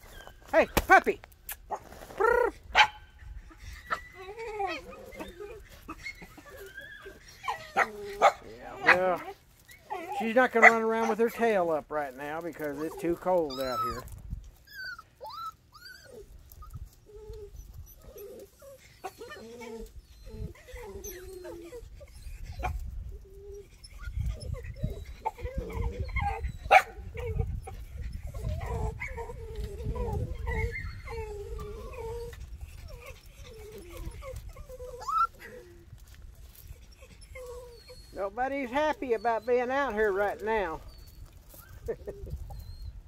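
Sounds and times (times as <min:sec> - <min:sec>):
puppies whimpering and whining: 0:00.0 - 0:00.5, 0:01.7 - 0:43.0.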